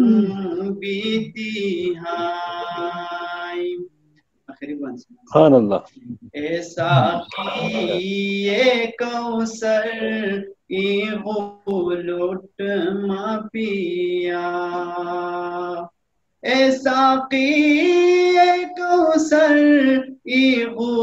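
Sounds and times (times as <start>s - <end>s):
man singing unaccompanied: 0.0s - 3.9s, 6.2s - 21.0s.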